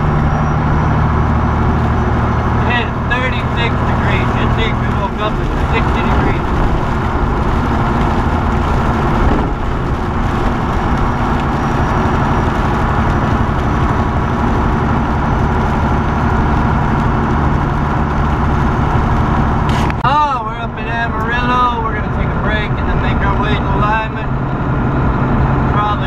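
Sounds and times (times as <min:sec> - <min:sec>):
diesel truck engine running: 0:00.0 - 0:26.0
road and wind noise: 0:00.0 - 0:26.0.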